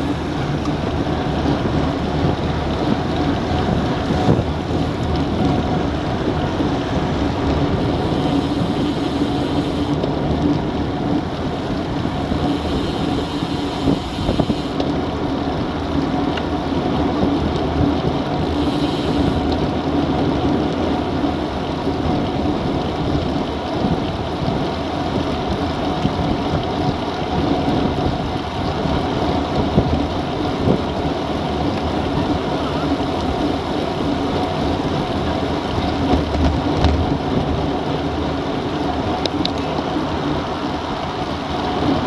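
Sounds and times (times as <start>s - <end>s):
bike road noise: 0.0s - 42.0s
wind rushing over microphone: 0.0s - 42.0s.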